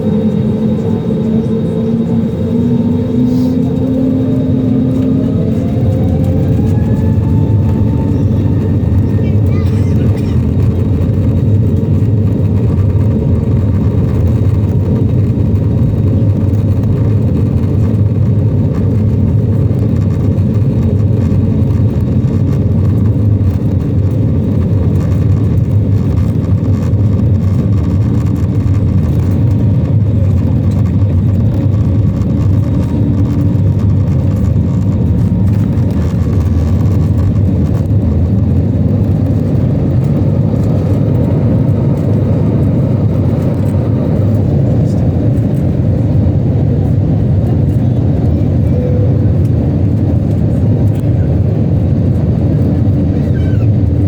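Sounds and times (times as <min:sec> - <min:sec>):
jet engine rumble inside cabin: 0:00.0 - 0:54.0.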